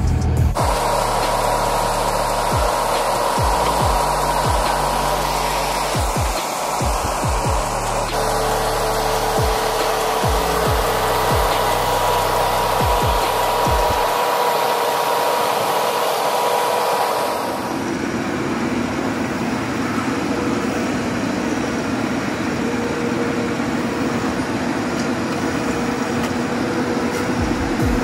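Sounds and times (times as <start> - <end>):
car engine whirring: 0.0 - 28.0.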